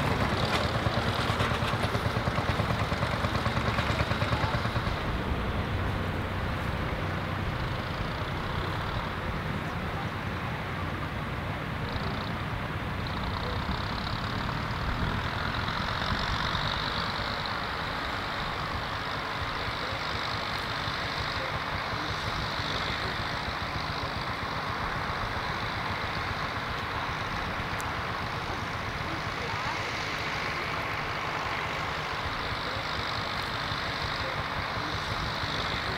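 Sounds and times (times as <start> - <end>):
tractor diesel engine chugging: 0.0 - 35.9.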